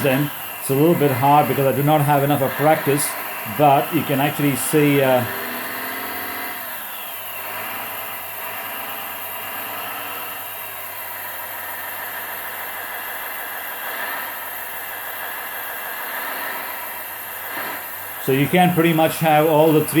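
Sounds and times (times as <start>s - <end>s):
hydraulic pump hum: 0.0s - 20.0s
simulated engine sound: 0.0s - 20.0s.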